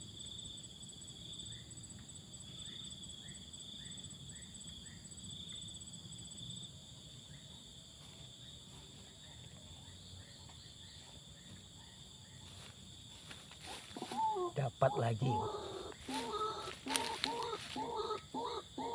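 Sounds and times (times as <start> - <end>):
pulsing insect chorus: 0.0 - 18.9.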